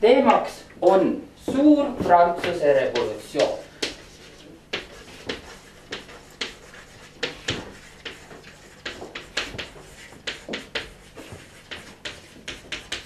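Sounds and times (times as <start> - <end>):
chalk tapping and scratching: 2.0 - 13.0.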